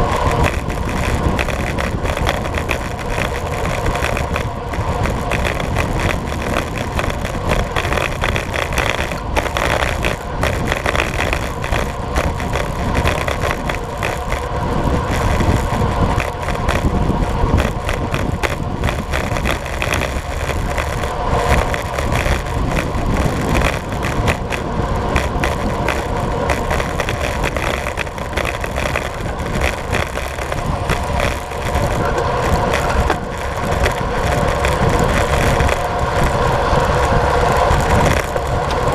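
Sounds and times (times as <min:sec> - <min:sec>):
bike tyres rolling on asphalt: 0:00.0 - 0:38.9
wind rushing over microphone: 0:00.0 - 0:38.9.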